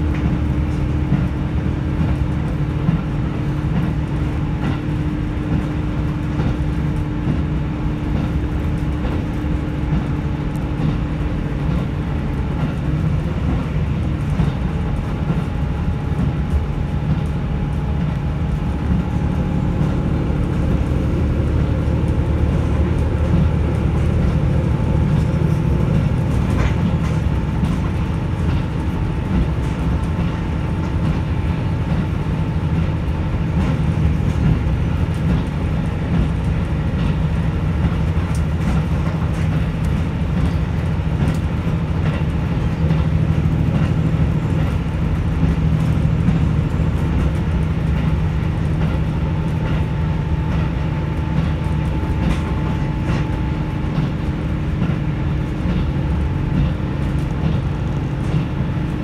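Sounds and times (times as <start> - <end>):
railcar engine drone: 0.0 - 59.0
wheel-on-rail noise: 0.0 - 59.0.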